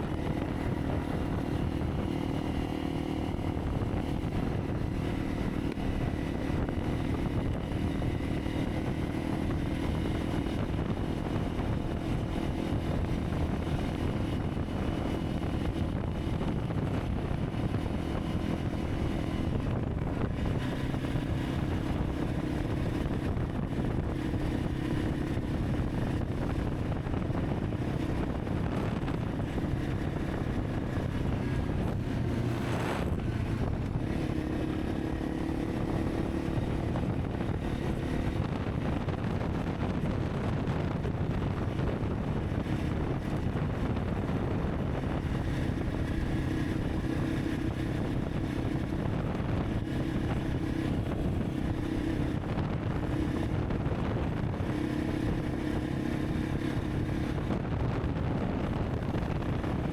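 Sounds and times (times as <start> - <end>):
motorcycle engine cruising: 0.0 - 59.9
road and wind noise: 0.0 - 59.9.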